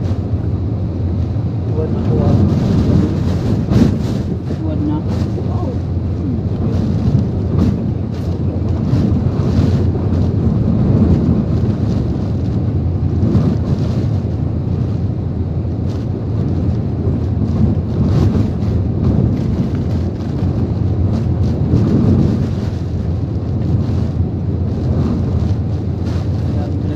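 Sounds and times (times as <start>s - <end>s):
heavy rain: 0.0s - 26.9s
strong wind gusting: 0.0s - 26.9s.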